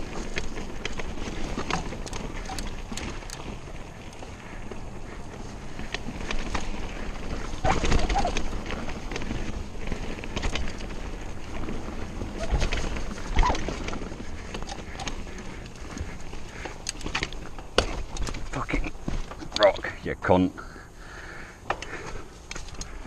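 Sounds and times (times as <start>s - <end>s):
bike rattling and knocking: 0.0s - 19.7s
bike tyres on dirt: 0.0s - 23.0s.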